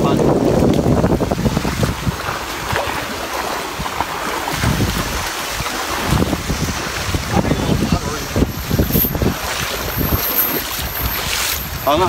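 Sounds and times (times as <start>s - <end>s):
footsteps splashing in water: 0.0s - 12.0s
stream rushing: 0.0s - 12.0s.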